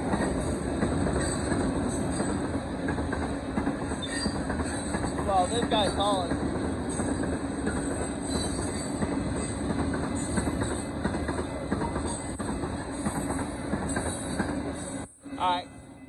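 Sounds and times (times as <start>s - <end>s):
freight train rolling: 0.0s - 16.0s
steel wheels rumbling on rails: 0.0s - 16.0s.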